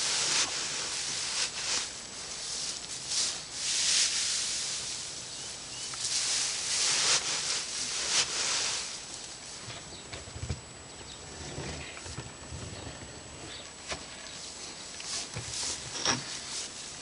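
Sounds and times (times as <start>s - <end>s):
dry hay rustling and crackling: 0.0s - 10.2s, 11.2s - 17.0s.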